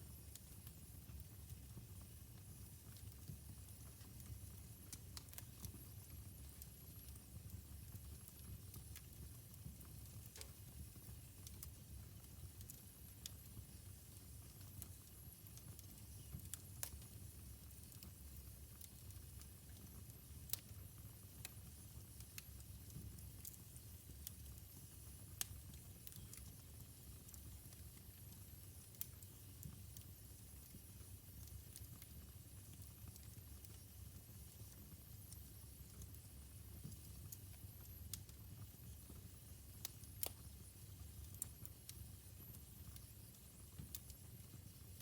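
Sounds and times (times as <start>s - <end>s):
low rumble of flames: 0.0s - 45.0s
wood fire crackling and popping: 0.0s - 45.0s.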